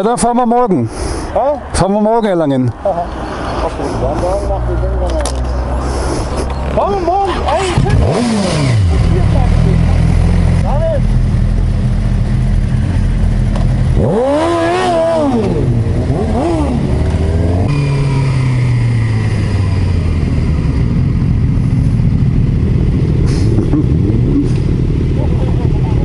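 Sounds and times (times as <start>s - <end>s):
motorcycle engines idling and revving: 0.0s - 26.0s.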